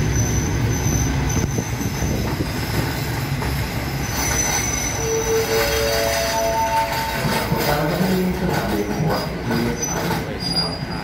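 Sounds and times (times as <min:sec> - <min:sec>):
high wheel squeal: 0:00.0 - 0:03.2, 0:03.8 - 0:07.8, 0:09.1 - 0:11.0
train wheels rumbling on rail: 0:00.0 - 0:11.0.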